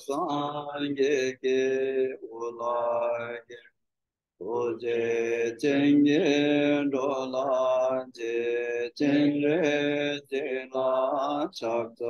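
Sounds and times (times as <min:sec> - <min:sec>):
man chanting: 0:00.0 - 0:03.6, 0:04.4 - 0:12.0.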